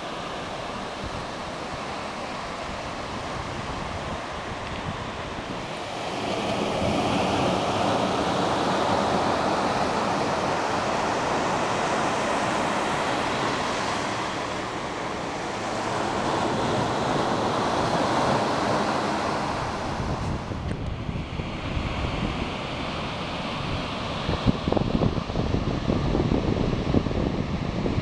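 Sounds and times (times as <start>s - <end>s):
waves breaking on a beach: 0.0s - 28.0s.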